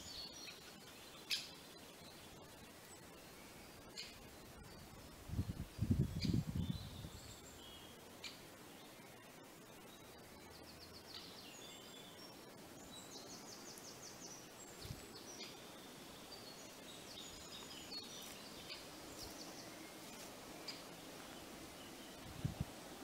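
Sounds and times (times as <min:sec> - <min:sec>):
woodland ambience: 0:00.0 - 0:23.0.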